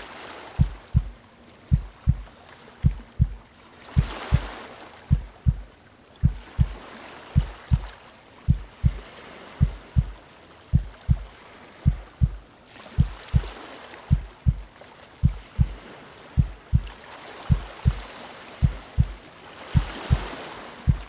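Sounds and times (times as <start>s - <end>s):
calm ocean waves: 0.0s - 21.0s
slow heartbeat: 0.6s - 6.8s, 7.4s - 21.0s.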